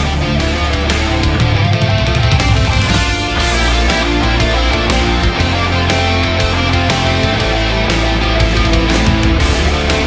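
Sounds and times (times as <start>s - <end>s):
rock music with distorted guitars: 0.0s - 10.0s.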